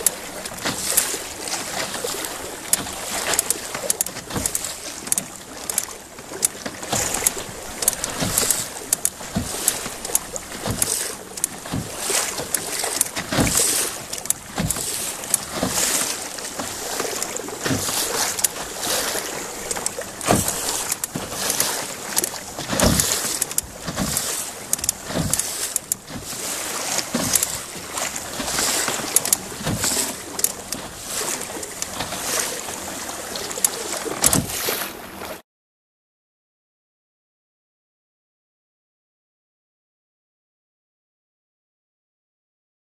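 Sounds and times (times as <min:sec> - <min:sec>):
steady rush of water: 0:00.0 - 0:35.4
water slapping against canoe hull: 0:00.0 - 0:35.4.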